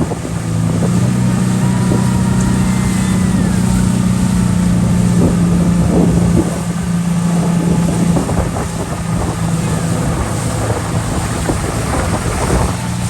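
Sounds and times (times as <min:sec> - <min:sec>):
rushing water: 0:00.0 - 0:13.0
speedboat engine drone: 0:00.0 - 0:13.0
wind on microphone: 0:00.0 - 0:13.0.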